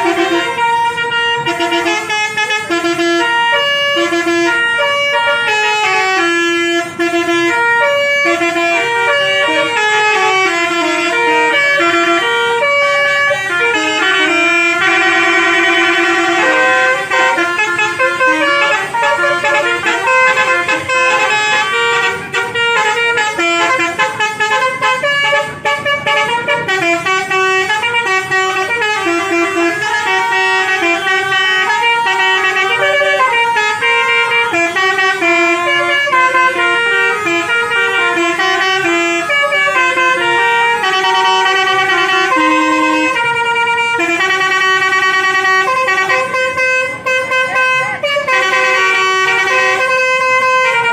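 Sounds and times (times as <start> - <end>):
musical air horns playing tunes: 0.0 - 50.9.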